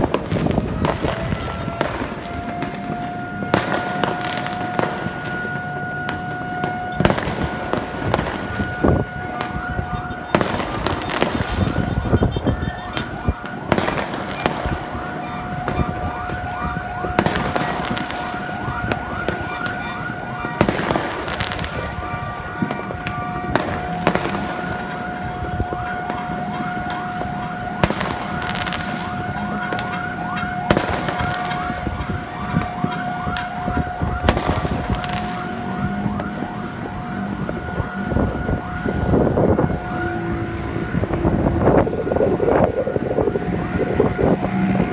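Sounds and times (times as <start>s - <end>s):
fireworks bangs: 0.0s - 44.9s.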